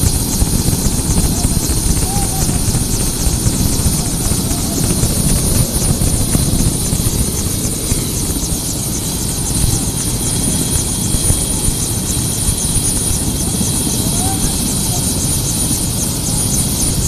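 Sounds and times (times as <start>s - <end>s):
helicopter turbine whine: 0.0s - 17.0s
rotor blades chopping: 0.0s - 17.0s.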